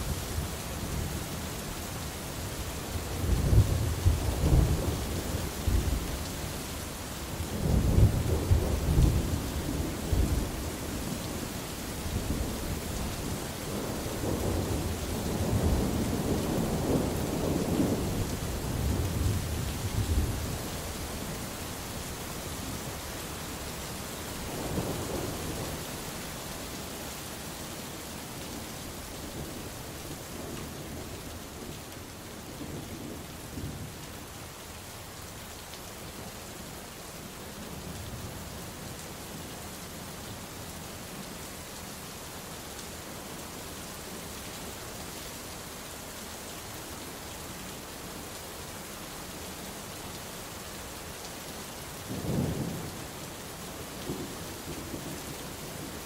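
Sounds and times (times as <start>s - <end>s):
steady rain hissing: 0.0s - 56.0s.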